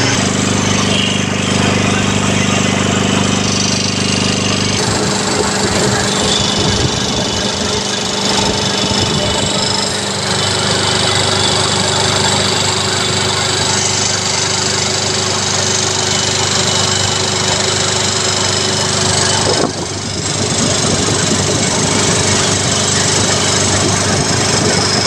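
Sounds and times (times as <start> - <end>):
air compressor knocking clatter: 0.0 - 25.0.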